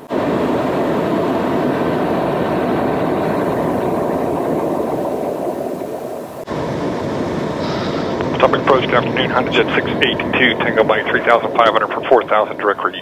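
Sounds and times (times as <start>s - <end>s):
airflow past fuselage: 0.0s - 12.8s
jet engine rush: 0.0s - 13.0s.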